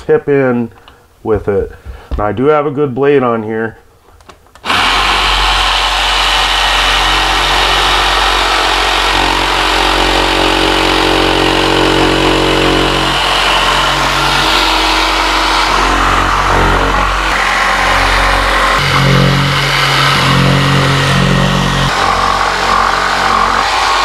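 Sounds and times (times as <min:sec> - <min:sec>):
jigsaw cutting wood: 0:04.6 - 0:24.0.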